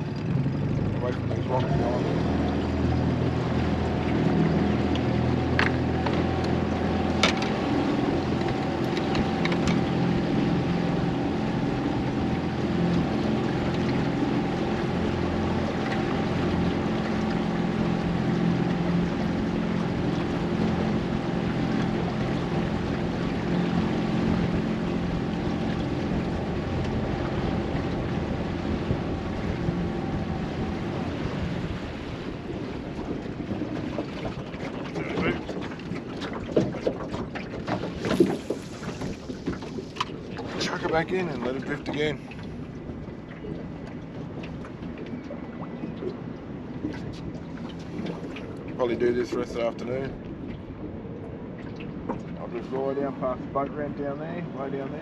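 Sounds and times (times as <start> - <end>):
outboard motor running: 0.0 - 55.0
wind on microphone: 1.8 - 53.4.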